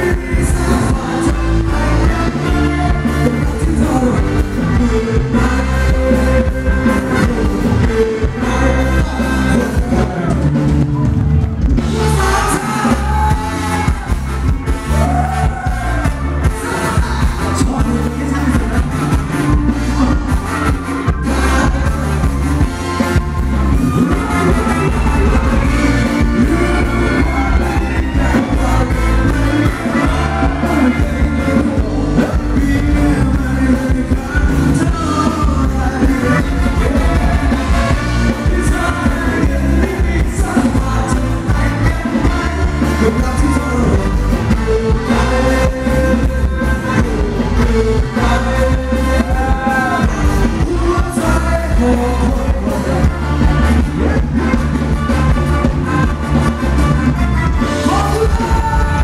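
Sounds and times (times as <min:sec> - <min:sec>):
live band dance music: 0:00.0 - 0:59.0
person singing: 0:00.0 - 0:59.0.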